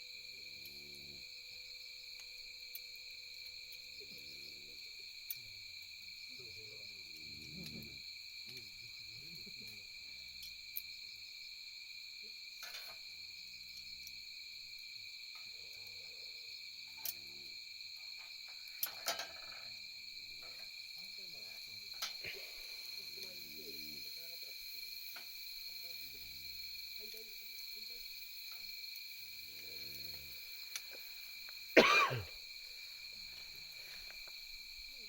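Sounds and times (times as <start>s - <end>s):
night insects trilling: 0.0s - 35.0s.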